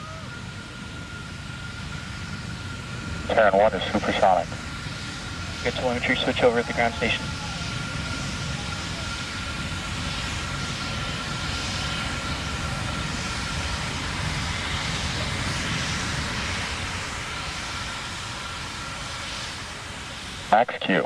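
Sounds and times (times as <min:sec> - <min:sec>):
distant rocket engine roar: 0:00.0 - 0:21.0.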